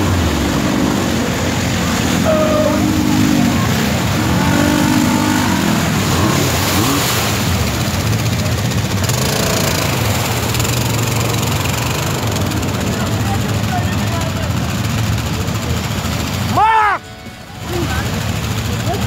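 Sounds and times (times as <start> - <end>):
quad bike engine under load: 0.0 - 19.0
water churning and splashing: 0.0 - 19.0.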